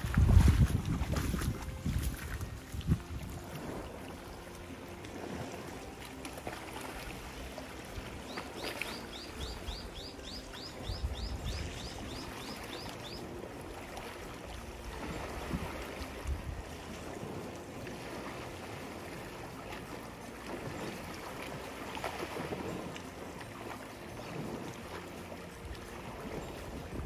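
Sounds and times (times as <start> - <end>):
sea water lapping at shore: 0.0 - 27.0.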